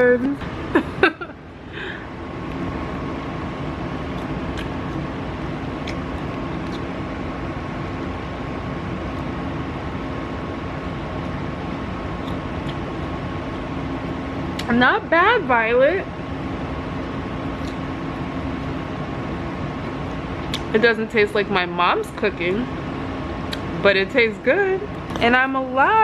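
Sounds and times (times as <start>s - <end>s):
motor humming with whine: 0.0s - 26.0s.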